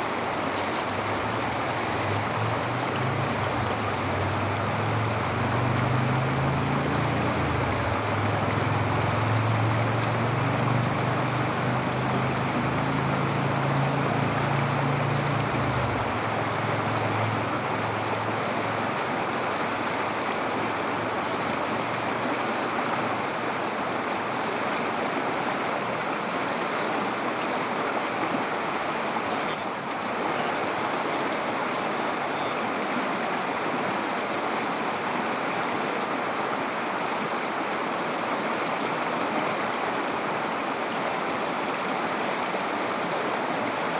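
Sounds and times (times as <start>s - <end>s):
river water rushing over rocks: 0.0s - 43.9s.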